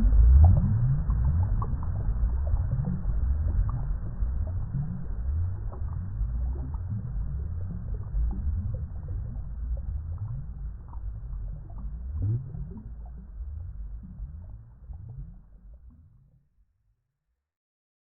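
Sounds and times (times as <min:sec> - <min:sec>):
water bubbling and gurgling: 0:00.0 - 0:16.4.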